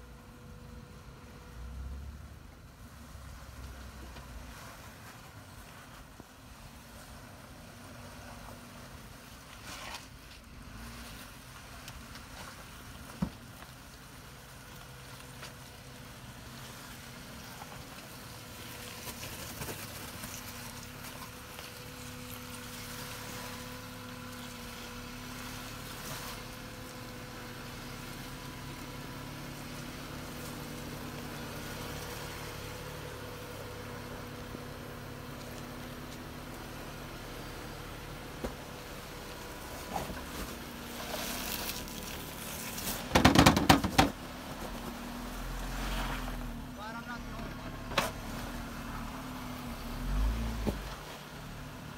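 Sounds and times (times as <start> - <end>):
off-road vehicle engine running: 0.0 - 51.9.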